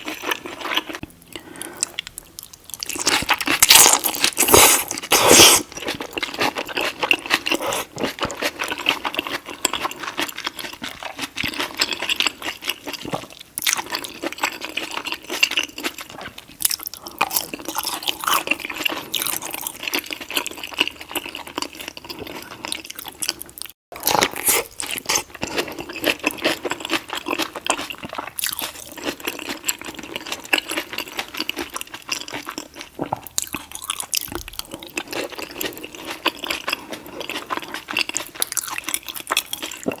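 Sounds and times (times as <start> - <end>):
chewing and wet mouth sounds: 0.0 - 40.0.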